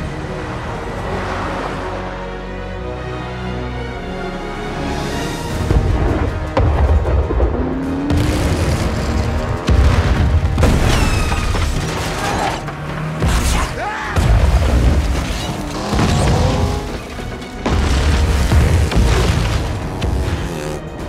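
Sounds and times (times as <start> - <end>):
bass-heavy action music: 0.0 - 21.0.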